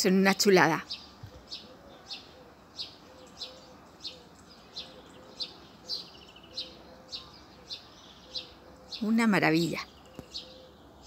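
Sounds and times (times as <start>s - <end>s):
small bird chirping: 0.5s - 11.0s.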